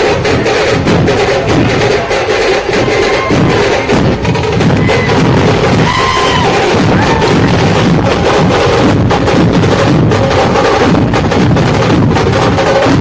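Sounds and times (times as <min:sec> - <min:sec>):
barrel drums drumming: 0:00.0 - 0:13.0
sharp stick-beaten drum strokes: 0:00.0 - 0:13.0.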